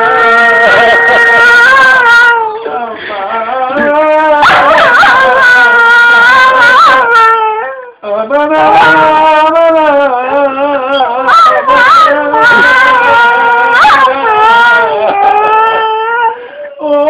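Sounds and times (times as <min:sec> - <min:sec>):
dog howling: 0:00.0 - 0:17.0.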